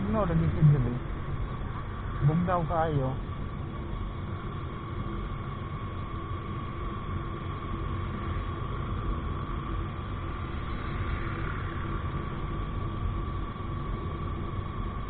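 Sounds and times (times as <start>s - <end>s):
thin steady whine: 0.0s - 15.0s.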